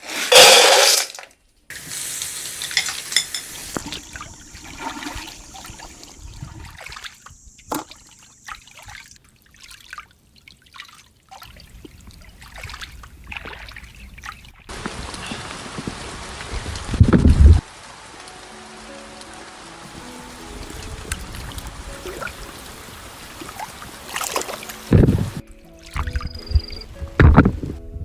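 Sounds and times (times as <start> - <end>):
water trickling and splashing: 1.3 - 27.8.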